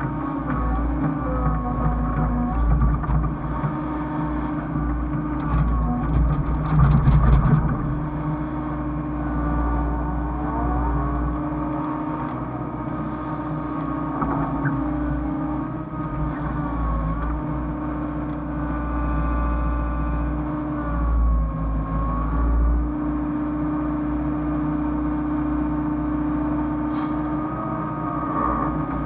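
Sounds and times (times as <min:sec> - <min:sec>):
excavator diesel engine: 0:00.0 - 0:29.0
hydraulic whine: 0:00.0 - 0:29.0.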